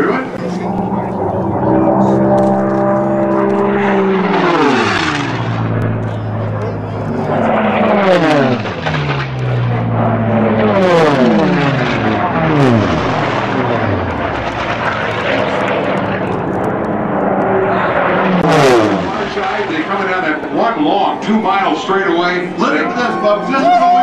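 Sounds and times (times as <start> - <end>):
propeller aircraft passing low: 0.0 - 23.4.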